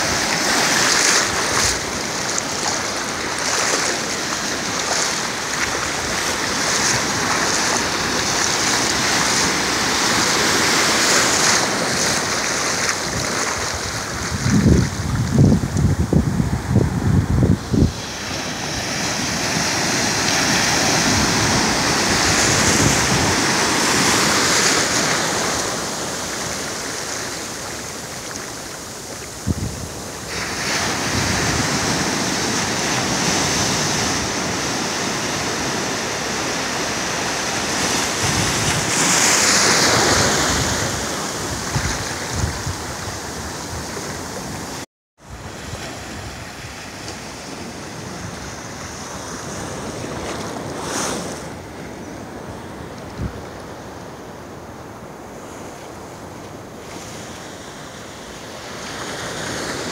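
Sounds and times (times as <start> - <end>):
small waves breaking on beach: 0.0 - 59.9.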